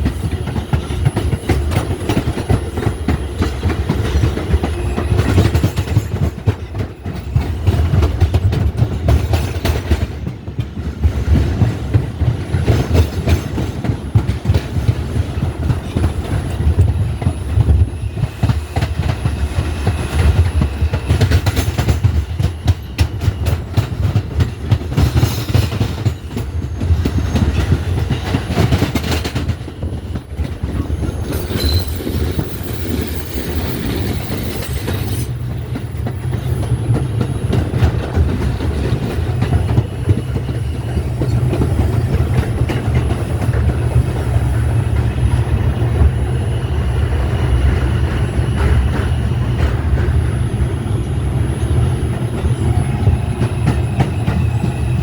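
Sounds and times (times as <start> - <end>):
wheels clacking over rail joints: 0.0 - 46.2
subway train rumble: 0.0 - 55.0.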